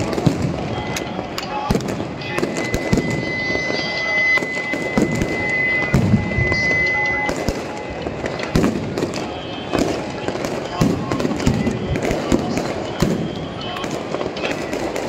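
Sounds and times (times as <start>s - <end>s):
fireworks cracking and popping: 0.0s - 15.0s
high firework whistle: 0.0s - 15.0s.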